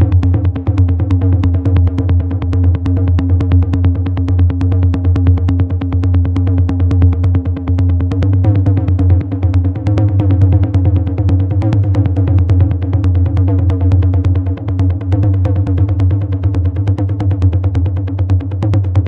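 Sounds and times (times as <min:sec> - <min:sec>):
low bass drone: 0:00.0 - 0:19.0.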